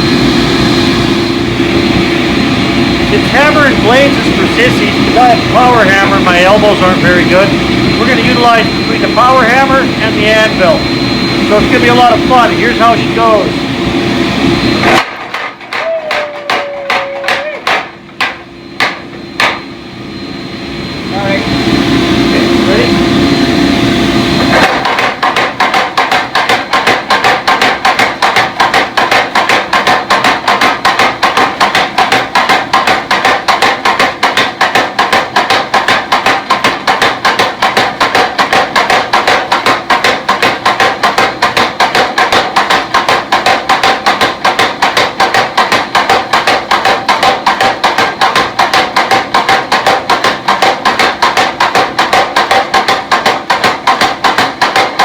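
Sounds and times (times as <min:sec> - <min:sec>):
power hammer pounding metal: 0:00.0 - 0:55.0
steady running hum: 0:00.0 - 0:55.0.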